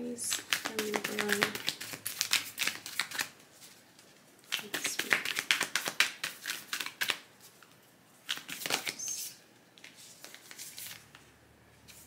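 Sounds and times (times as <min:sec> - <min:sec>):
cards being shuffled: 0:00.3 - 0:11.2.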